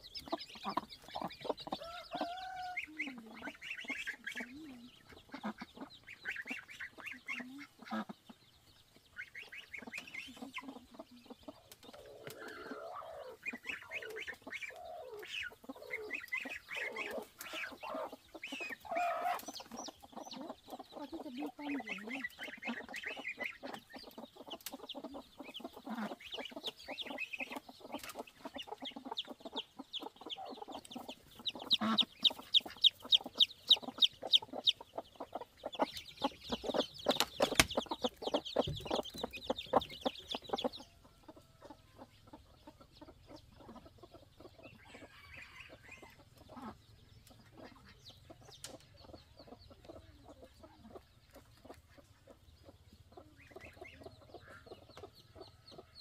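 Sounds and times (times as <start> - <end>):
chicks peeping: 0.0 - 56.0
hen clucking: 0.0 - 56.0.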